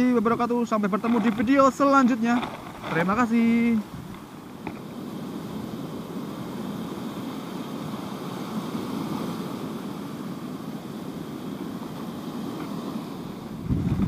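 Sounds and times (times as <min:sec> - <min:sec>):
big sea waves breaking: 0:00.0 - 0:14.0
wind on microphone: 0:00.2 - 0:14.0.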